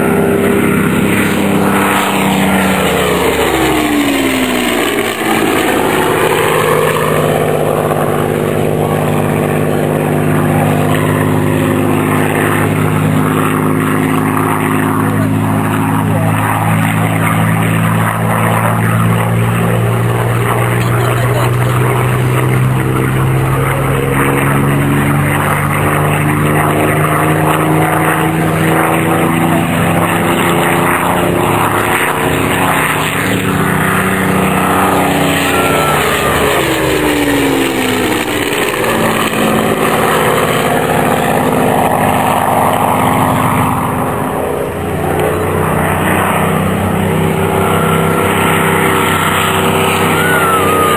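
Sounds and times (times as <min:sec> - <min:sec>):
propeller aircraft droning: 0:00.0 - 0:50.9.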